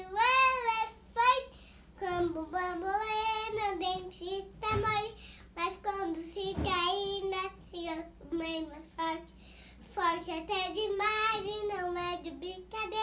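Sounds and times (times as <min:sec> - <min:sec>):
young girl singing: 0:00.0 - 0:13.0.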